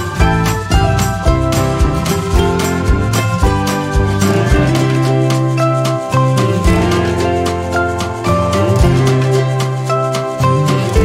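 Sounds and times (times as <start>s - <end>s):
steady beat: 0.0s - 11.0s
sustained synth notes: 0.0s - 11.0s.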